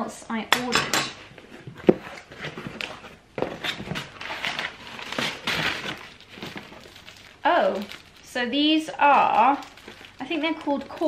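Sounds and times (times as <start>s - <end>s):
paper bag rustling and crinkling: 1.6s - 11.0s.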